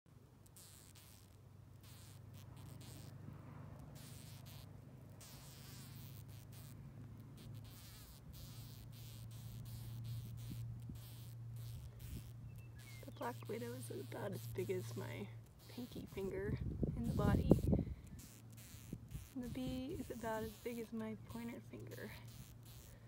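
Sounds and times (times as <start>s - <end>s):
bee buzzing: 0.4s - 23.0s.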